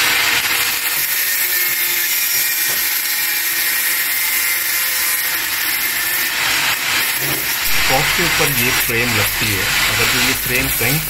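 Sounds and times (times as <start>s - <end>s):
angle grinder grinding metal: 0.0s - 11.0s.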